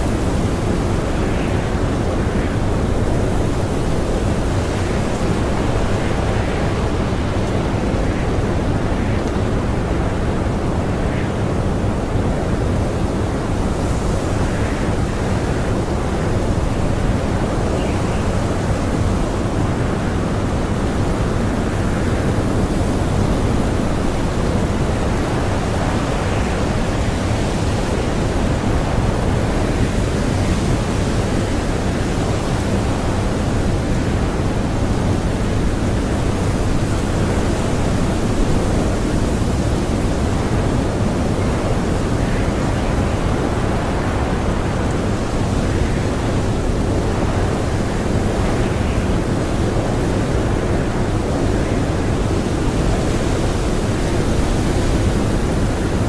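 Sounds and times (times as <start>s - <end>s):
blizzard wind rushing: 0.0s - 56.0s.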